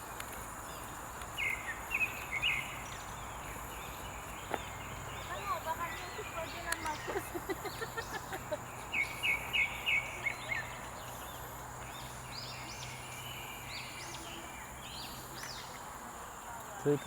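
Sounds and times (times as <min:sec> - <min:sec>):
birds chirping: 0:00.6 - 0:17.0.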